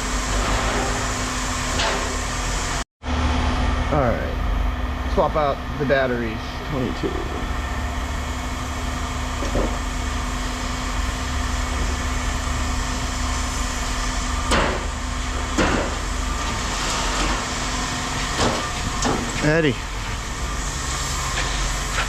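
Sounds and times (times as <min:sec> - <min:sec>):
engine humming: 0:03.0 - 0:22.0.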